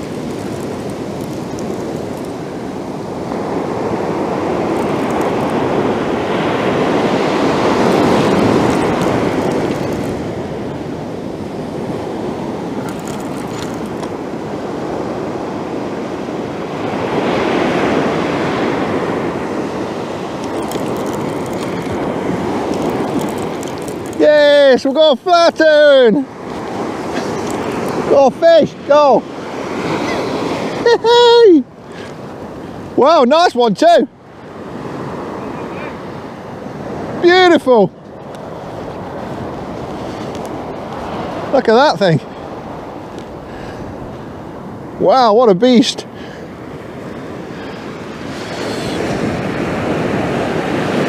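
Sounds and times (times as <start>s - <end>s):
sea waves breaking: 0.0s - 51.0s.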